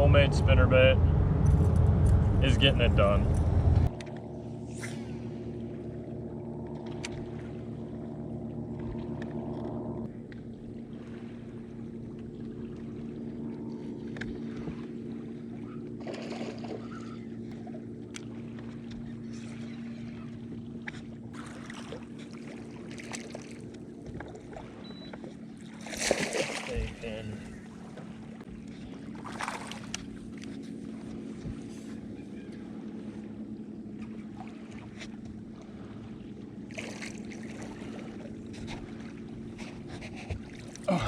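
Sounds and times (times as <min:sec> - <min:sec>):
electric boat motor humming: 0:00.0 - 0:41.0.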